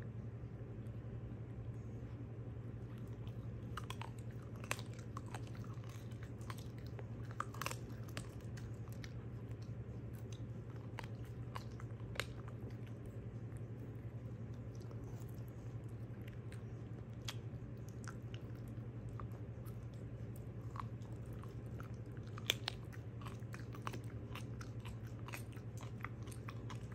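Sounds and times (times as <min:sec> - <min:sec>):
low hum: 0:00.0 - 0:26.9
dog chewing bone: 0:02.8 - 0:26.9.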